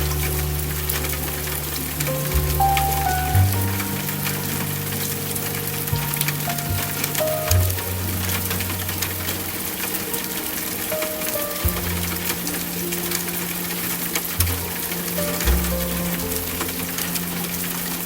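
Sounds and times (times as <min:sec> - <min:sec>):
soft slow instrumental music: 0:00.0 - 0:18.0
steady rain falling: 0:00.0 - 0:18.0.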